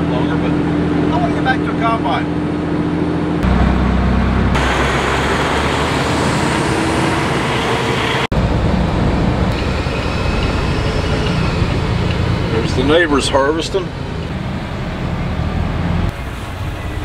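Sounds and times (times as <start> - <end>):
road noise: 0.0 - 17.0
truck diesel engine: 0.0 - 17.0.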